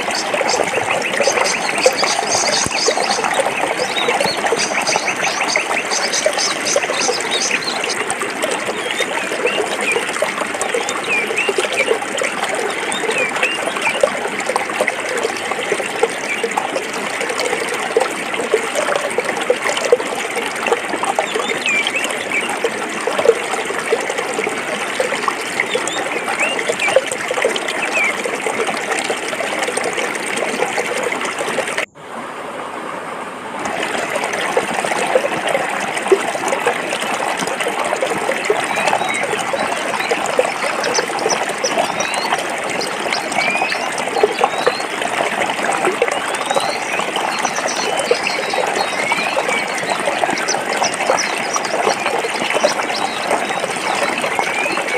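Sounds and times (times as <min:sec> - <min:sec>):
stream flowing over rocks: 0:00.0 - 0:54.9.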